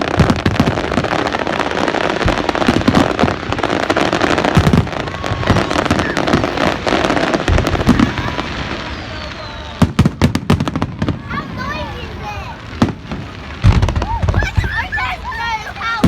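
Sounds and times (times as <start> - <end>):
firework shell booms: 0.0 - 11.3, 12.7 - 14.8
fireworks crackling: 0.0 - 16.0.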